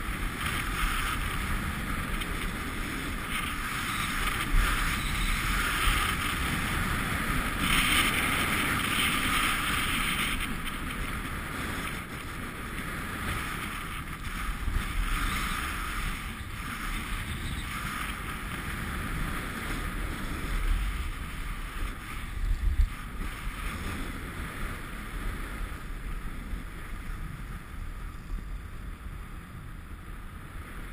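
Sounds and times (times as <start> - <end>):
skis hissing over snow: 0.0 - 26.0
wind rushing on microphone: 0.0 - 30.9.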